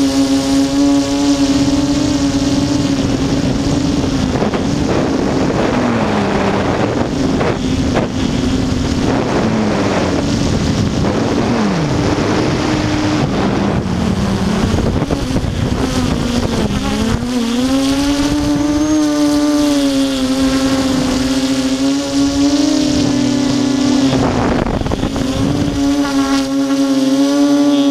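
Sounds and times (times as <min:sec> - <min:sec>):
drone motors buzzing whine: 0:00.0 - 0:27.9
rushing air: 0:02.4 - 0:27.9.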